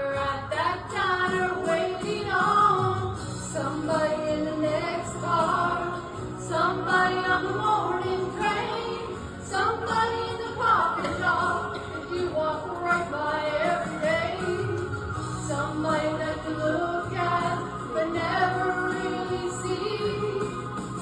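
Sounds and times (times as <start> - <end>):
woman singing country song: 0.0 - 20.6
musical accompaniment: 0.0 - 21.0.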